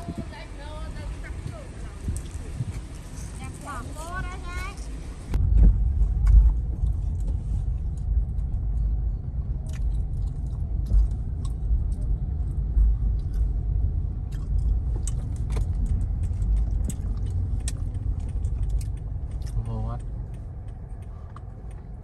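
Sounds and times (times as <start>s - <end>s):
vehicle rumbling: 0.0s - 22.0s.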